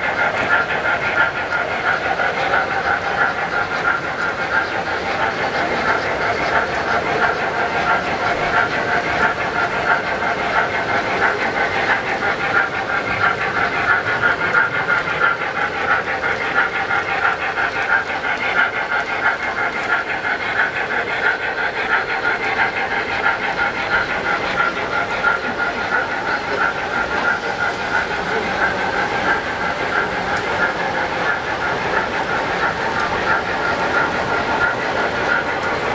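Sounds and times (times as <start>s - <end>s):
model train motors whirring: 0.0s - 35.9s
wheels clattering on track: 0.0s - 35.9s.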